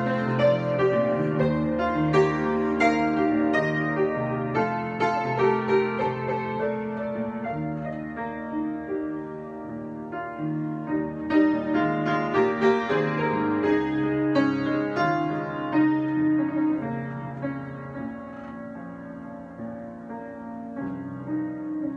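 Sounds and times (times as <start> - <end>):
solo piano improvisation: 0.0 - 21.9.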